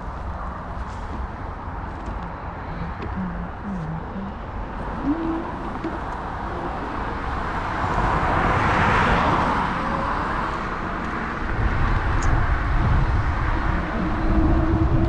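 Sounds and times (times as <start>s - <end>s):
low uneven rumble: 0.0s - 15.0s
vehicle passing: 0.0s - 15.0s.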